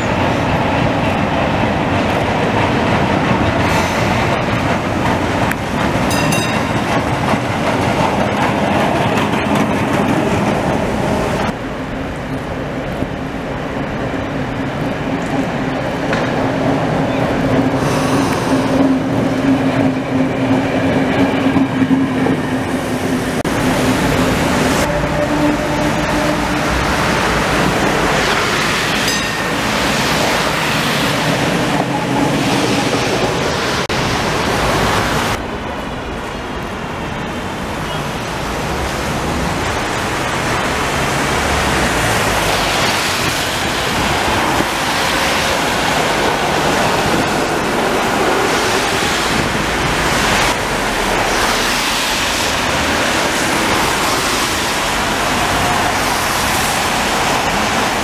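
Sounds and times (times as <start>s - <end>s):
tyres swishing on wet road: 0.0s - 20.0s, 22.6s - 58.0s.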